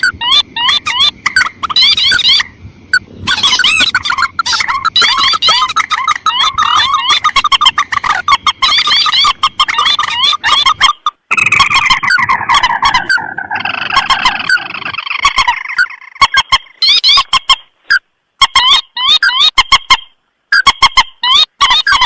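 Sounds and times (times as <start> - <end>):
marsh birds chattering calls: 0.0 - 22.0.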